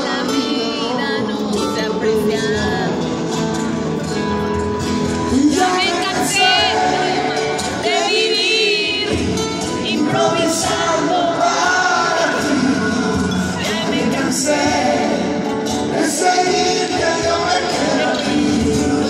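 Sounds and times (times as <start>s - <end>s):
live concert music with singing: 0.0s - 19.0s.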